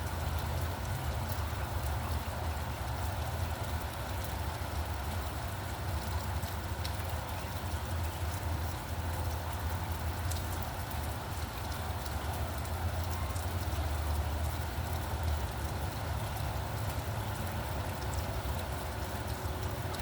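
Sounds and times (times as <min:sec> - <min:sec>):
raindrop ticks: 0:00.0 - 0:20.0
road traffic rumble: 0:00.0 - 0:20.0
steady rain falling: 0:00.0 - 0:20.0.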